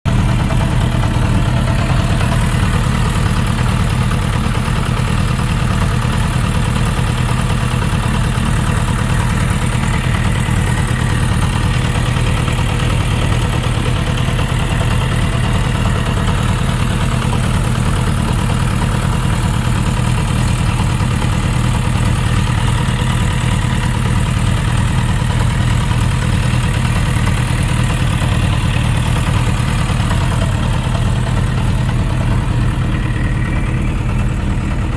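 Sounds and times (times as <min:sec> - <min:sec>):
motorcycle engine idling with ticking: 0:00.0 - 0:34.9.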